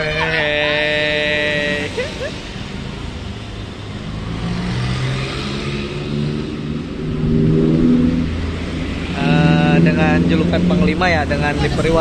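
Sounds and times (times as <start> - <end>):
cars and motorbikes passing: 0.0 - 12.0.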